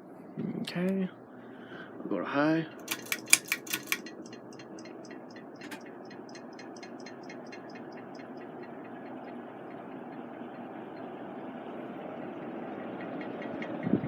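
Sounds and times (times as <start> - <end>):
ceiling fan whooshing: 0.0 - 14.0
rapid light ticking: 2.7 - 14.0.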